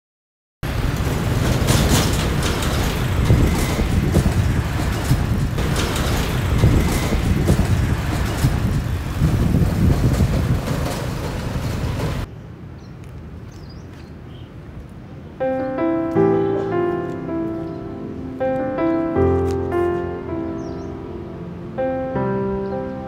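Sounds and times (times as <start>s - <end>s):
road traffic rumble: 0.6s - 23.0s.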